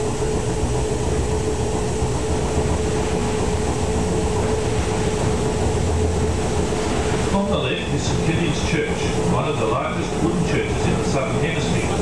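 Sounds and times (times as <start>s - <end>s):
electric tram rumbling: 0.0s - 12.0s.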